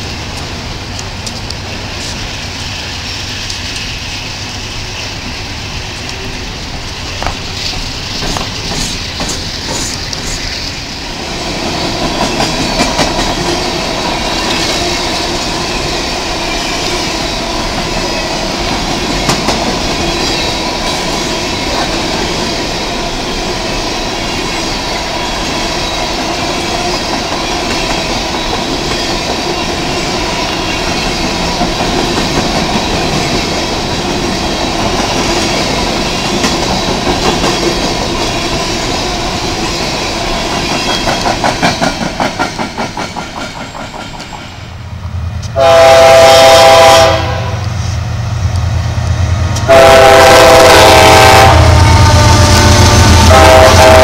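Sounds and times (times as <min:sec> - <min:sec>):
clickety-clack over rail joints: 0:00.0 - 0:04.5, 0:05.2 - 0:10.8, 0:11.4 - 0:44.6
train wheels rumbling on rail: 0:00.0 - 0:54.0.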